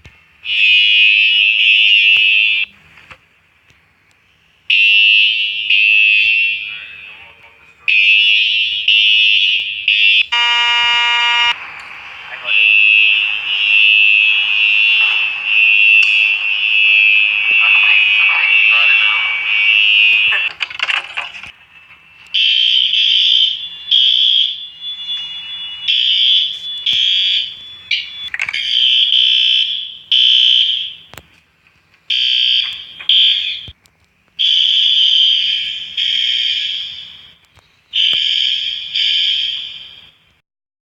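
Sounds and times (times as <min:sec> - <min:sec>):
fire alarm buzzing blasts: 0:00.4 - 0:02.7, 0:04.7 - 0:31.2, 0:32.1 - 0:33.8, 0:34.4 - 0:40.3.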